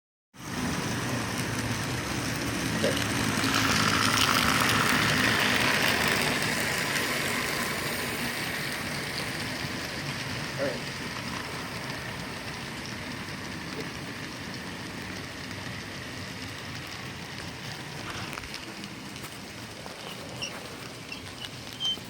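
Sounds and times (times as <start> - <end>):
model train running on track: 0.4 - 22.0.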